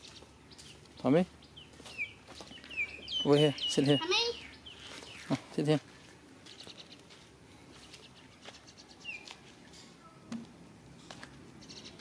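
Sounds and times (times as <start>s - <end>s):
faint bird chirps and trills: 0.0s - 5.5s, 6.4s - 10.3s, 11.5s - 12.0s.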